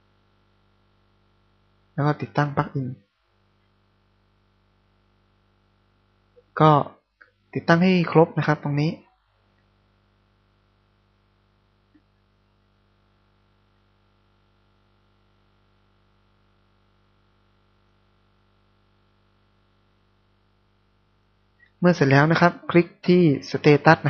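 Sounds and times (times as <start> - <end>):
faint electrical hum with hiss: 0.0 - 24.0.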